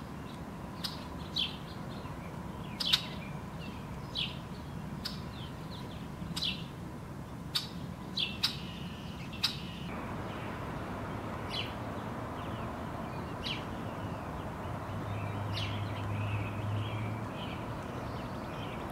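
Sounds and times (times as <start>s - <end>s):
small birds chirping: 0.0s - 6.7s, 7.5s - 18.9s
outdoor background noise: 0.0s - 18.9s.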